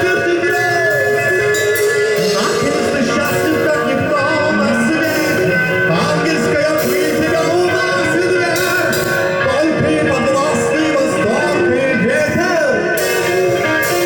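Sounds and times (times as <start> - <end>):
bass guitar: 0.0 - 14.0
drums: 0.0 - 14.0
electric guitars: 0.0 - 14.0
person singing: 0.0 - 14.0.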